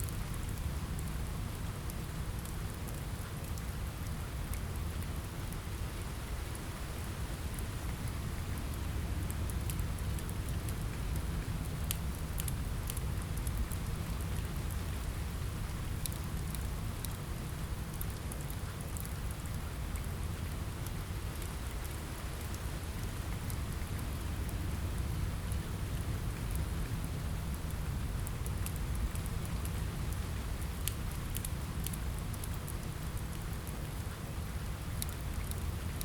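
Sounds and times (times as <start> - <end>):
rain on a window: 0.0 - 36.0.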